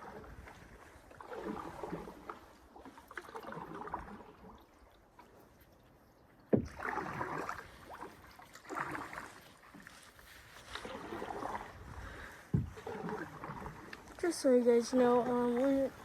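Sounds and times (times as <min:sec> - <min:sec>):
paddles swishing through water: 0:00.0 - 0:16.0.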